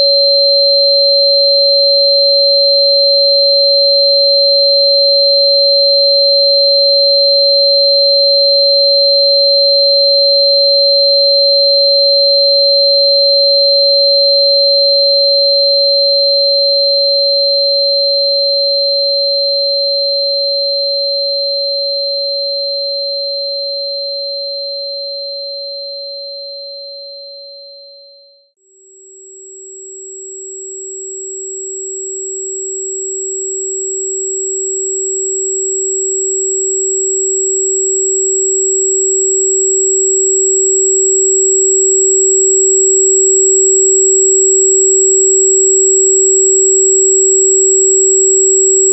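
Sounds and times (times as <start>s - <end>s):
steady electronic sine tone: 0.0s - 48.9s.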